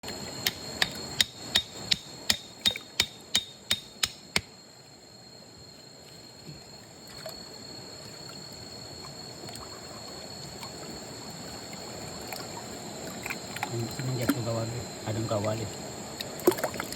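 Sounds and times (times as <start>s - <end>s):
faint steady noise: 0.0s - 16.9s.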